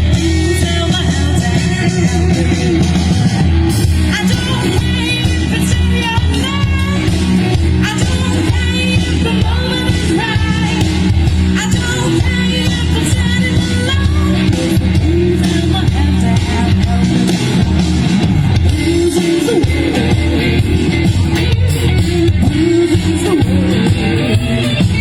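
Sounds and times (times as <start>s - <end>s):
live blues band: 0.0s - 25.0s.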